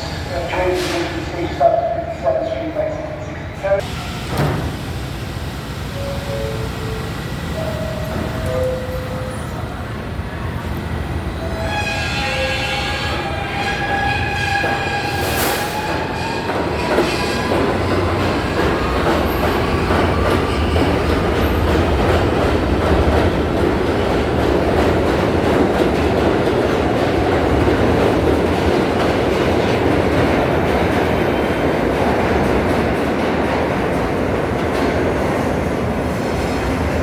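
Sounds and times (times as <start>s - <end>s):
subway train rumbling: 0.0s - 37.0s.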